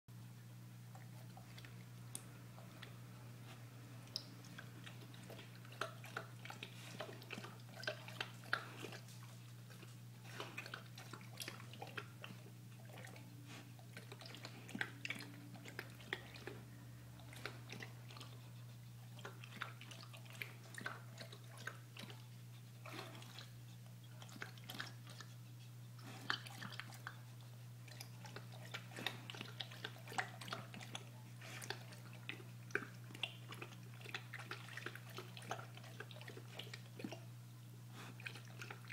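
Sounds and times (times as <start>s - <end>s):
steady low hum: 0.1s - 38.9s
dog slurping water from bowl: 0.9s - 37.3s, 37.9s - 38.9s.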